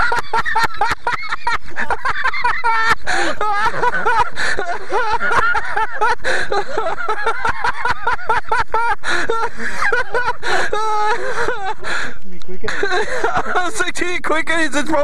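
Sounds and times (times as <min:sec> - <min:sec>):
men laughing hard: 0:00.0 - 0:14.1.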